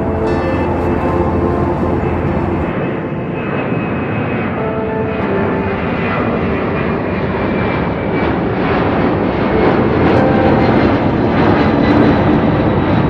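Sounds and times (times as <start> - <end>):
airplane engines running: 0.0 - 13.0.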